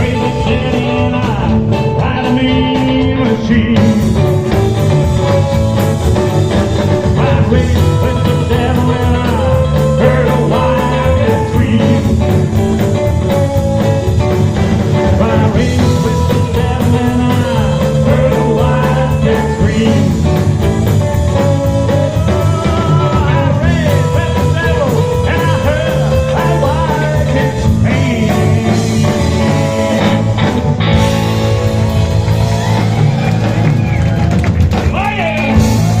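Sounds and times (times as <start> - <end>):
rock and roll band music: 0.0 - 36.0.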